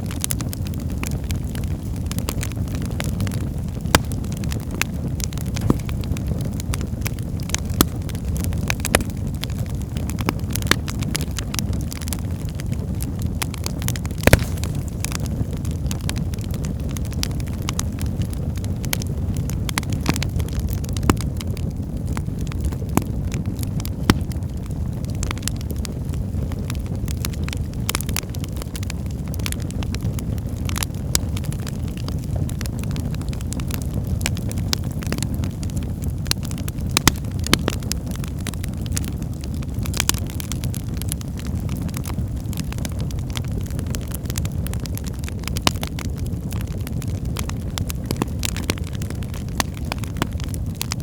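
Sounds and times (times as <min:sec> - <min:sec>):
fire crackling and popping: 0:00.0 - 0:51.0.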